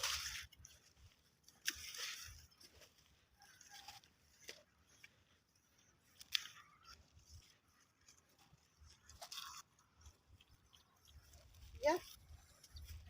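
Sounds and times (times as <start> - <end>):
faint crunches and rustles: 0.0 - 13.0.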